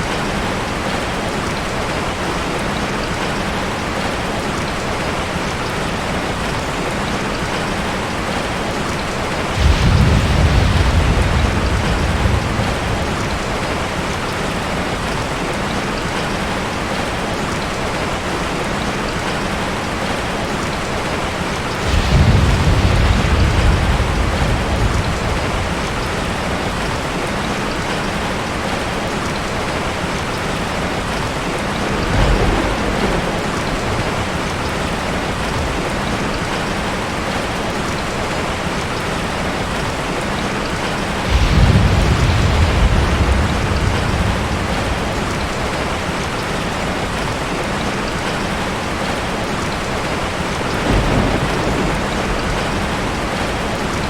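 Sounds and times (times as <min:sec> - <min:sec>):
heavy rain falling: 0:00.0 - 0:54.0
thunder rumbling: 0:05.1 - 0:17.0, 0:19.7 - 0:39.1, 0:40.8 - 0:54.0.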